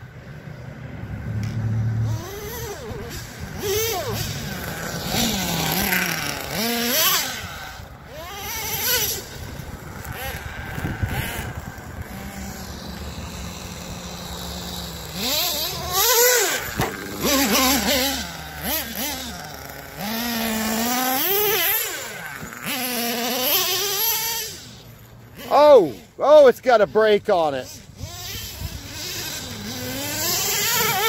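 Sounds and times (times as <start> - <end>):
small nitro engine revving: 1.0 - 31.0.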